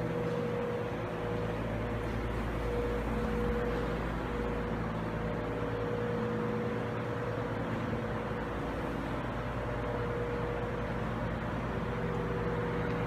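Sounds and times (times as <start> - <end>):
constant high tone: 0.0 - 13.0
vehicle engine idling: 0.0 - 13.0.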